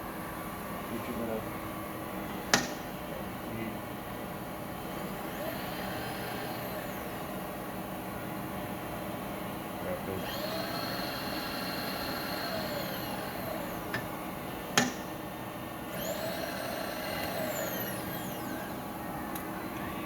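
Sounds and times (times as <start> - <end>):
milling machine hum and whine: 0.0 - 20.0.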